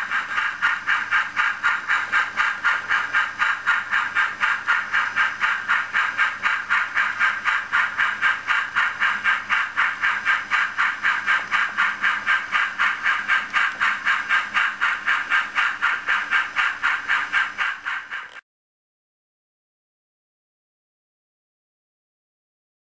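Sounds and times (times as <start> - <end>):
train running with rhythmic hiss: 0.0 - 18.4.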